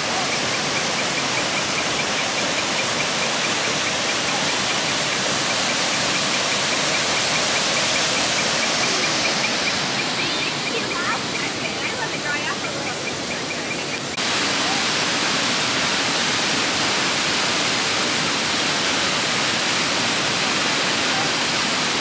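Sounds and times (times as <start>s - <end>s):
river and waterfall rushing: 0.0s - 22.0s.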